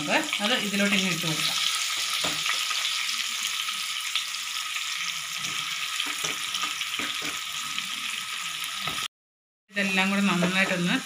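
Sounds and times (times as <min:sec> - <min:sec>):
food sizzling in hot oil: 0:00.0 - 0:09.1, 0:09.8 - 0:11.0.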